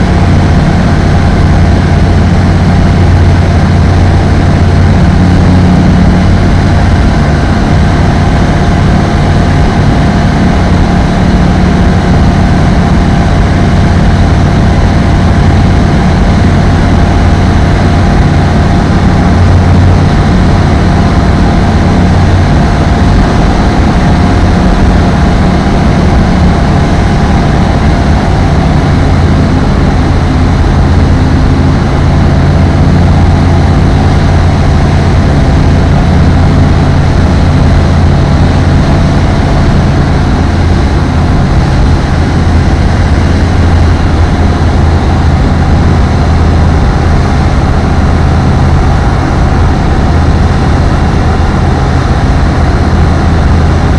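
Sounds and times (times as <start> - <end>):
ultralight aircraft engine droning: 0.0 - 53.9.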